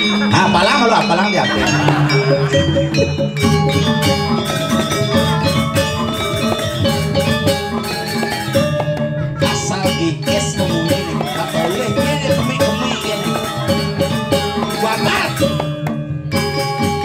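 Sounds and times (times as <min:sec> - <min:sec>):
metal-keyed instruments ringing: 0:00.0 - 0:17.0
drumming: 0:00.1 - 0:17.0.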